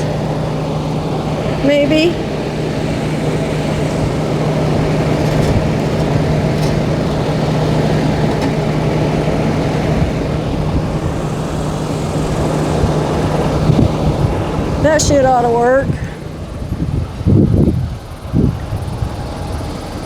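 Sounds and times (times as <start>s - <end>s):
air conditioning blowing: 0.0s - 20.0s
vehicle engine humming: 0.0s - 20.0s.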